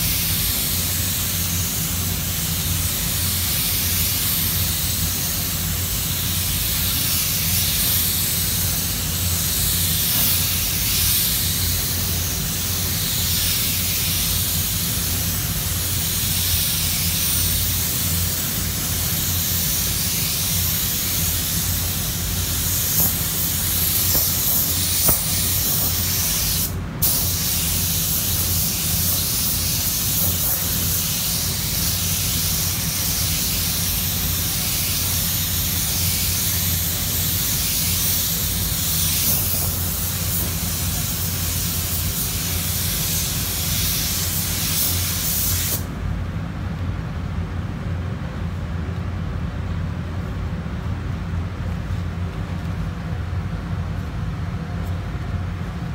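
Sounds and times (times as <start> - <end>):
spray gun hissing: 0.0 - 45.9
ventilation hum: 0.0 - 55.9.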